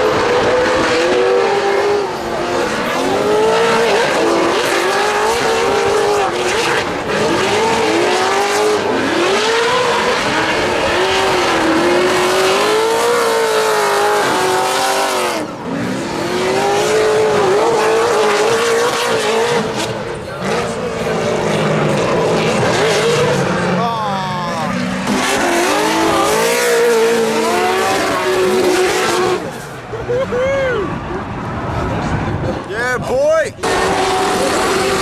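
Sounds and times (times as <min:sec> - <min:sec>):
car engines revving hard: 0:00.0 - 0:35.0.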